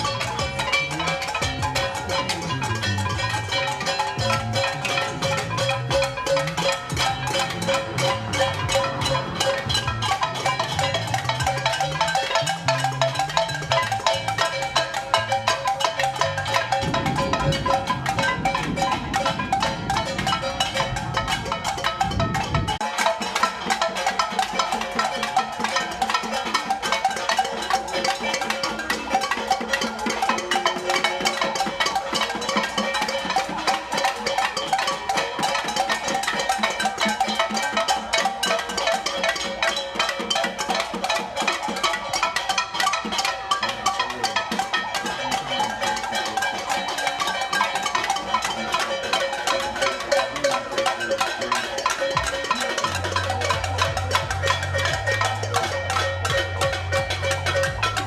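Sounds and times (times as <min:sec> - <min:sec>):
pots and drums beaten rapidly: 0:00.0 - 0:58.0.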